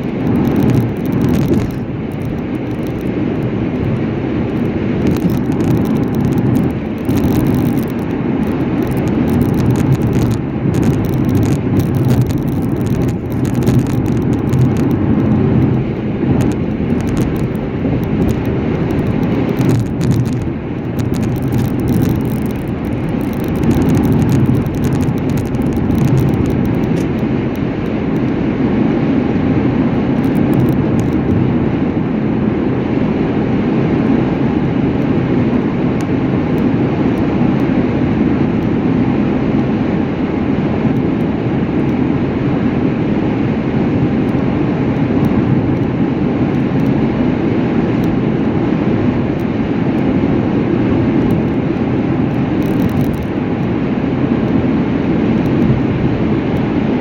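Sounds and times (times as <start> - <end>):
vehicle rumbling at speed: 0.0 - 57.0.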